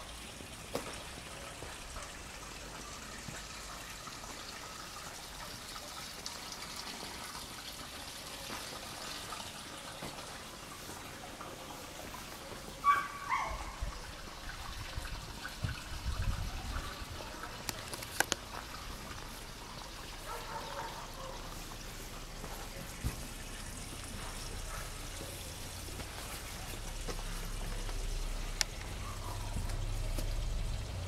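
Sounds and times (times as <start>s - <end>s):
water trickling into pool: 0.0s - 31.0s.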